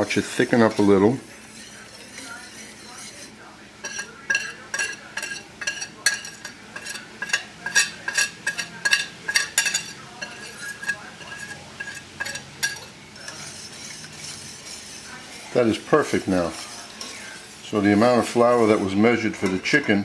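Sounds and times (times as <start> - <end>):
whisk clinking in a metal pot: 0.0 - 20.0.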